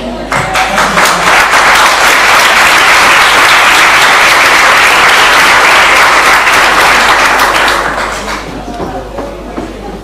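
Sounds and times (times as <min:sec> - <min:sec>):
audience applauding: 0:00.3 - 0:08.6.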